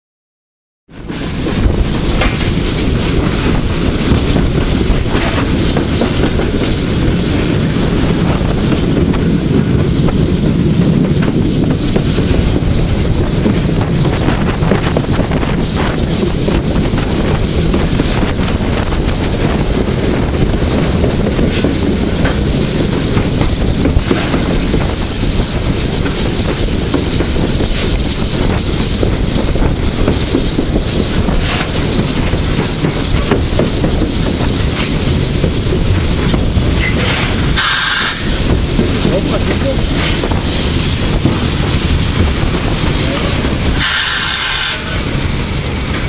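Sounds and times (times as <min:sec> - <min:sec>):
steam locomotive running: 0:00.9 - 0:46.0
wind buffeting microphone: 0:00.9 - 0:46.0.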